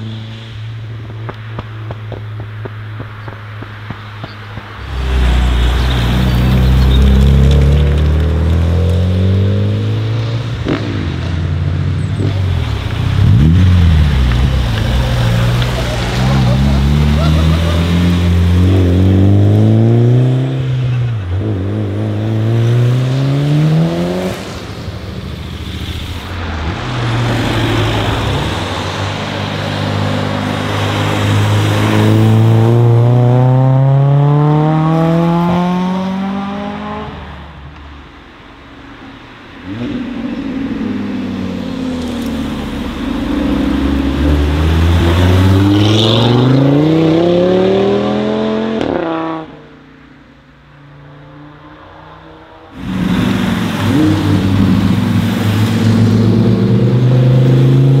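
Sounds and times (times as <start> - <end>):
car engines revving through gears: 2.4 - 24.8, 26.7 - 37.2, 39.6 - 49.8, 51.0 - 58.0.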